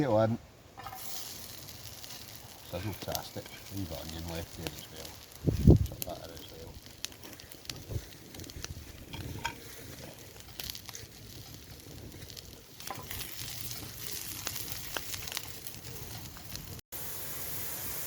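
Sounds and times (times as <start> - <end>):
potato and onion sizzling: 0.1 - 18.0.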